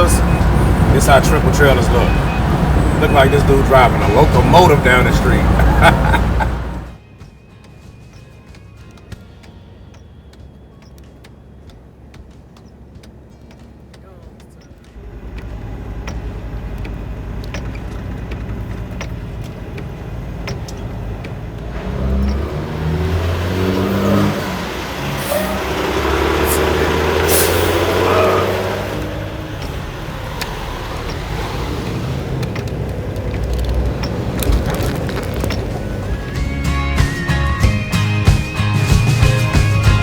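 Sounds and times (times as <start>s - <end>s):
truck diesel engine: 0.0s - 40.0s
tyre and road rumble: 0.0s - 40.0s.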